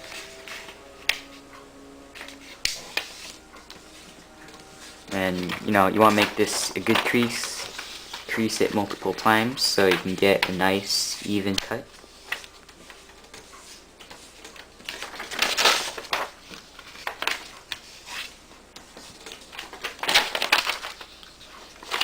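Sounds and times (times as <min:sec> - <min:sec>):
paper creasing and rustling: 0:00.0 - 0:22.0.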